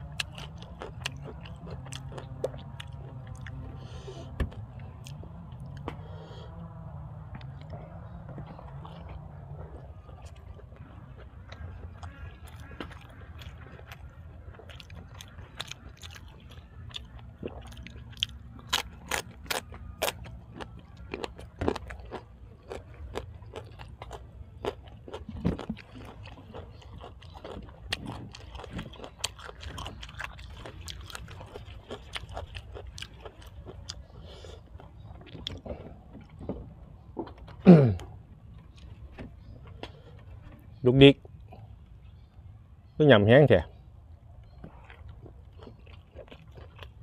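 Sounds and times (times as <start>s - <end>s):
person chewing crunchy food: 0.0s - 40.5s, 44.5s - 47.0s.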